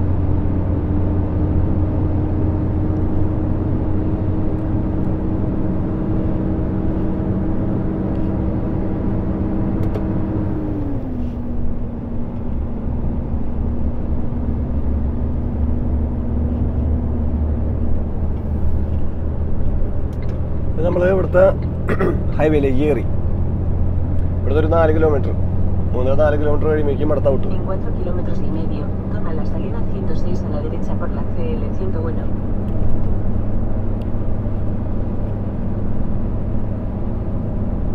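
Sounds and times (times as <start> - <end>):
truck diesel engine rumble: 0.0 - 37.9.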